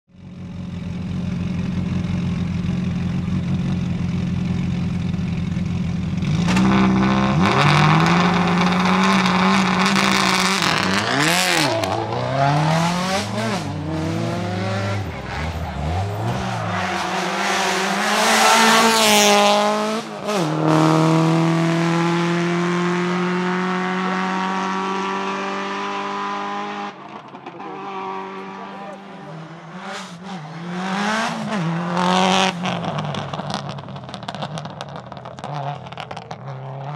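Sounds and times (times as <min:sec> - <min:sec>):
car engine idling and revving: 0:00.1 - 0:36.9
car pulling away: 0:00.4 - 0:36.9.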